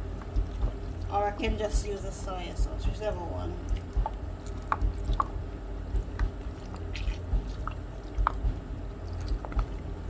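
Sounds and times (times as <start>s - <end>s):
raw meat squishing: 0.0s - 1.8s, 2.9s - 10.0s.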